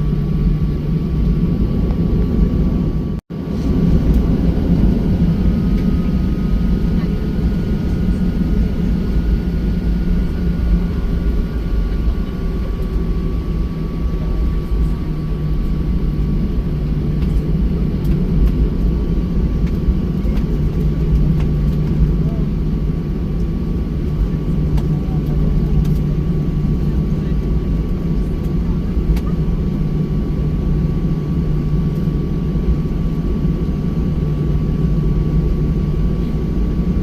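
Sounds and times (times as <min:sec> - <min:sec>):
faint engine fan whine: 0:00.0 - 0:37.0
jet cabin engine rumble: 0:00.0 - 0:37.0.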